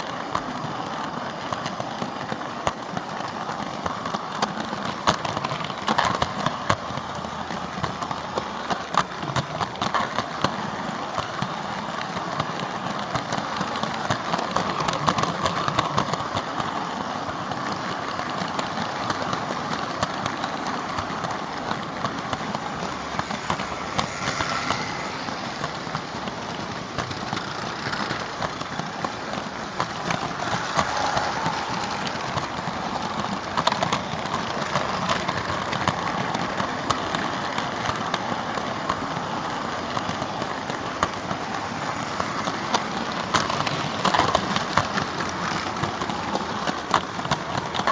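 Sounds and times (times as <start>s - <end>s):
clicks over rail joints: 0.0s - 47.9s
model train wheels rattling: 0.0s - 47.9s.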